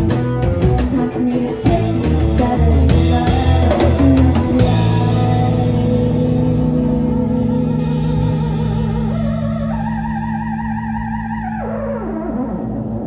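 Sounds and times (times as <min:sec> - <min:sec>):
held guitar notes with echo: 0:00.0 - 0:13.0
band closing chord: 0:01.8 - 0:13.0
warbling wavering tone: 0:02.4 - 0:13.0.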